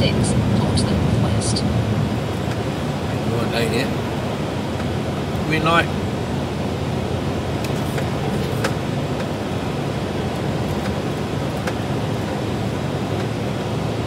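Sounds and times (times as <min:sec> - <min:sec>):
lorry engine and tyre noise: 0:00.0 - 0:14.0.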